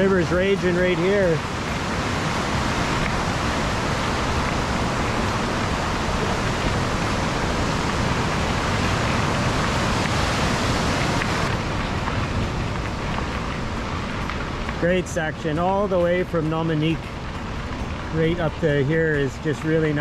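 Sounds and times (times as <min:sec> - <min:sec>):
river rapids rushing: 0:00.0 - 0:20.0.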